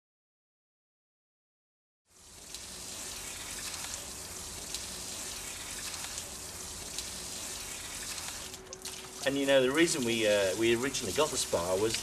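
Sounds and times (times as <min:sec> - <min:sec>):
splashing water hiss: 0:02.1 - 0:12.0.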